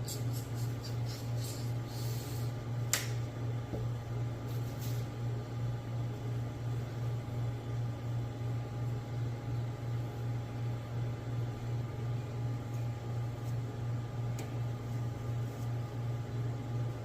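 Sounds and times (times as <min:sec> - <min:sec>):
pulsing low mechanical hum: 0:00.0 - 0:17.0.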